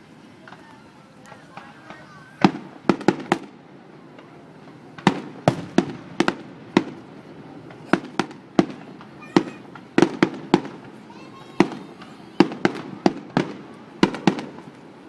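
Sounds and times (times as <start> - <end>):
fireworks bangs with rumbling echo: 0.4 - 15.0.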